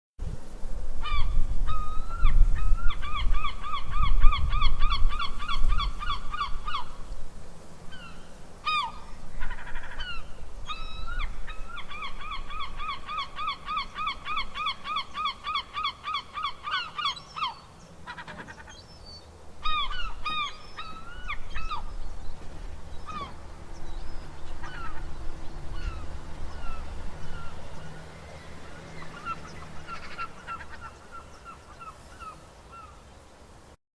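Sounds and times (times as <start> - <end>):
gulls calling: 1.0 - 7.2, 7.9 - 33.2.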